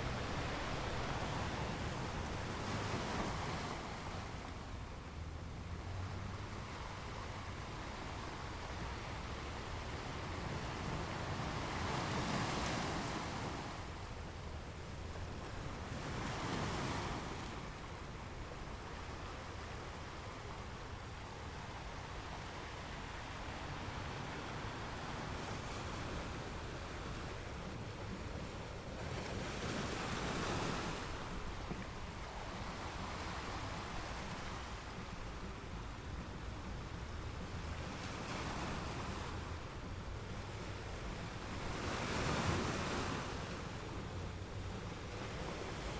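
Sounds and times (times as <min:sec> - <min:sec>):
ocean waves breaking on shore: 0:00.0 - 0:45.9.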